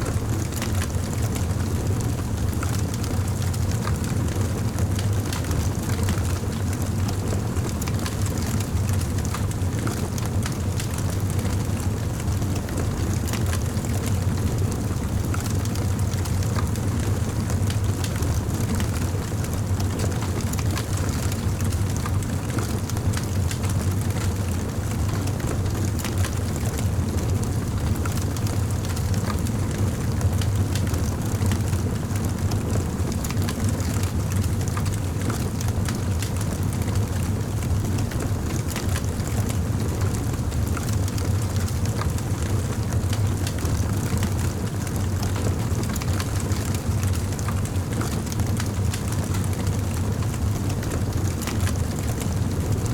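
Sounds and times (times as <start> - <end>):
low rumble of flames: 0.0 - 52.9.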